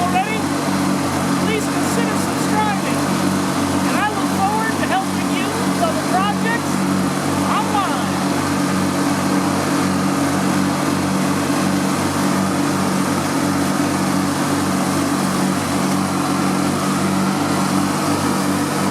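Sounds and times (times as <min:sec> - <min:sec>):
lawn mower engine running: 0:00.0 - 0:18.9.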